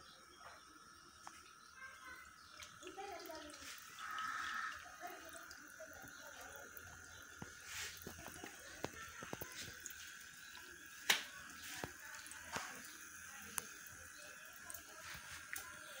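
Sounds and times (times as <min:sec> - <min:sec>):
water drips and plinks: 0:00.0 - 0:16.0
water jets splashing into basin: 0:00.0 - 0:16.0.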